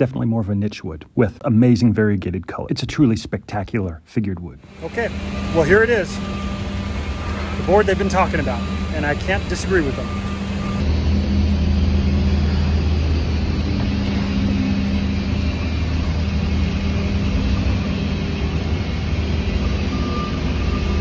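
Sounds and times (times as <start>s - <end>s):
machinery droning hum: 0.0s - 21.0s.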